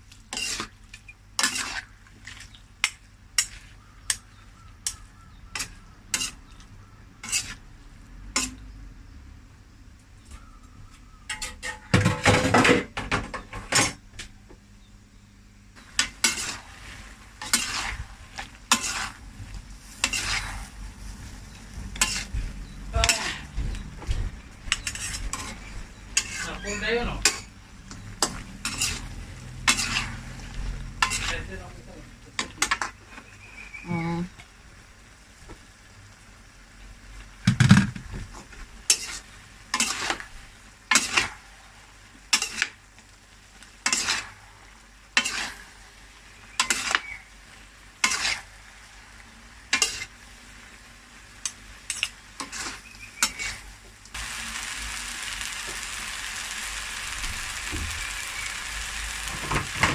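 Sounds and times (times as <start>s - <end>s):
noodles sizzling: 0.0s - 8.9s, 15.6s - 59.9s.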